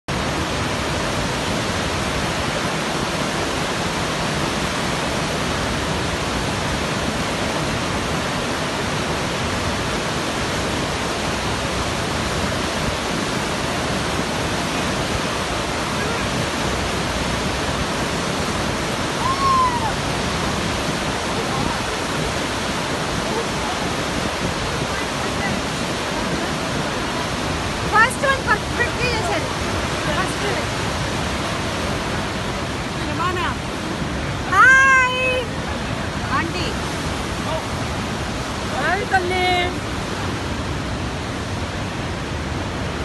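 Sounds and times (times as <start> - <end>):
river water rushing over dam: 0.1 - 43.0.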